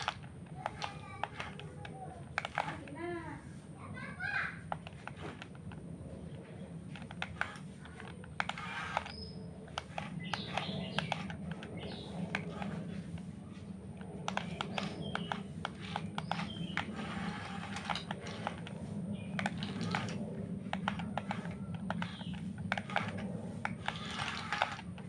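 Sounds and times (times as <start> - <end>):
sharp clicks and taps: 0.0 - 3.0, 4.6 - 25.0
small electric motor hum: 0.0 - 3.7, 4.6 - 25.0.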